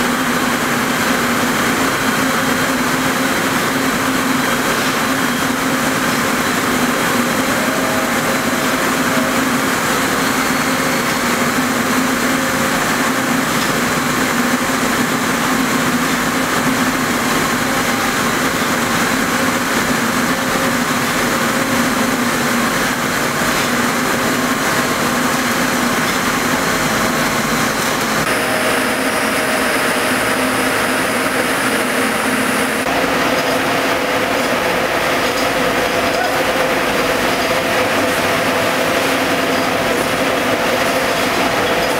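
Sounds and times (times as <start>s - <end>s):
spinning machines din: 0.1s - 41.9s.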